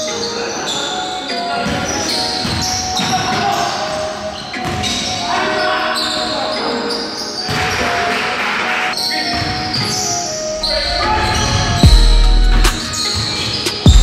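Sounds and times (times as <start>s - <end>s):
players' voices echoing: 0.0s - 13.8s.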